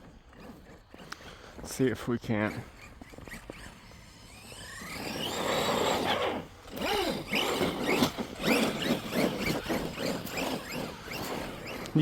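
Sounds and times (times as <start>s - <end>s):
tyres on snow and ice: 0.0s - 12.0s
electric motor whining: 2.3s - 12.0s.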